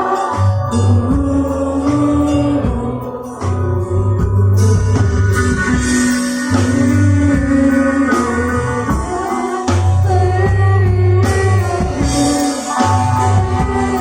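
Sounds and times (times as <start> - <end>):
person singing: 0.0 - 14.0
rock band playing: 0.0 - 14.0.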